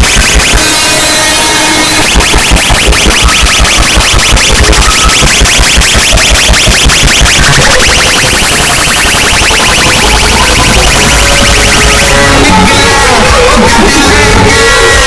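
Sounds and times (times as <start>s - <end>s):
pounding bass beat: 0.0s - 15.0s
rapidly repeating synth tone: 0.0s - 15.0s.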